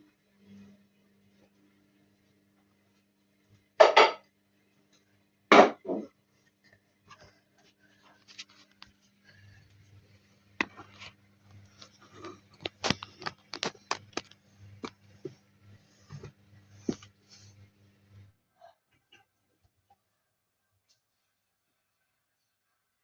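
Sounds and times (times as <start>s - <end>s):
washing machine motor hum: 0.0s - 20.2s.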